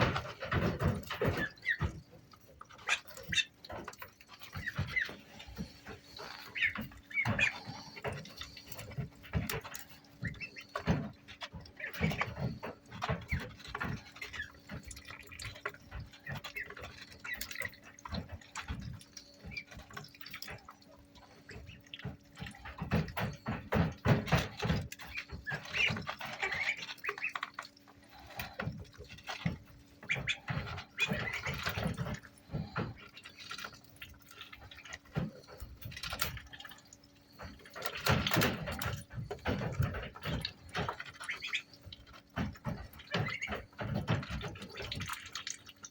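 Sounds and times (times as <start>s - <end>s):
ducklings peeping: 0.0s - 45.9s
water sounds: 0.0s - 45.9s.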